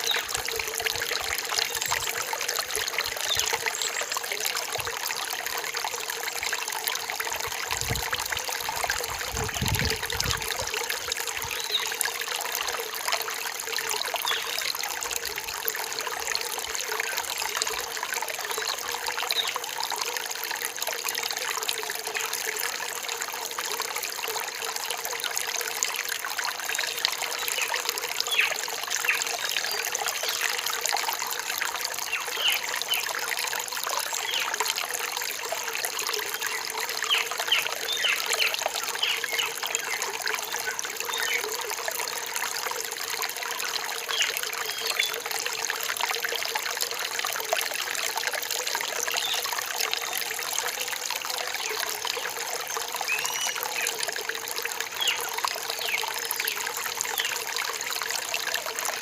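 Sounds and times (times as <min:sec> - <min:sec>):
stream splashing over rocks: 0:00.0 - 0:59.0.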